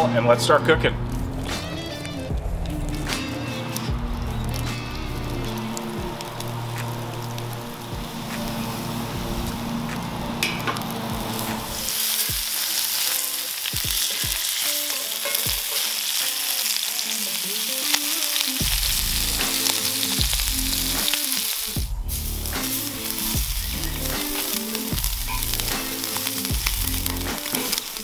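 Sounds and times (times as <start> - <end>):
meat sizzling in hot oil: 1.2 - 28.0.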